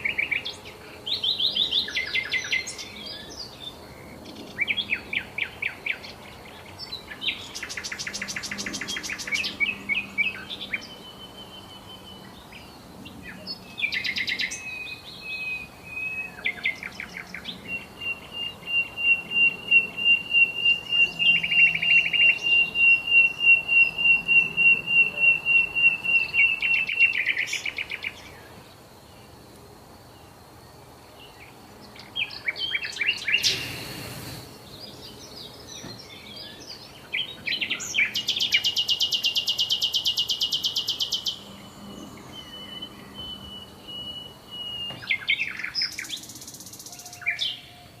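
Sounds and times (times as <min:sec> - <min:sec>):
songbirds trilling and chirping: 0:00.0 - 0:48.0.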